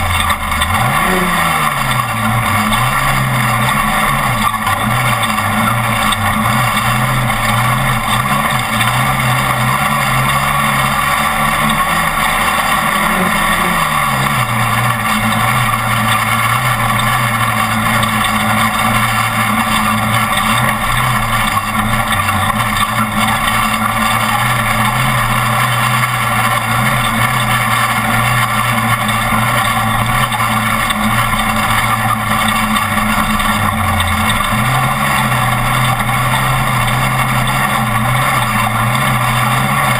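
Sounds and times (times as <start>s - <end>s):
truck engine revving: 0.0s - 39.9s
wind and road noise: 0.0s - 39.9s.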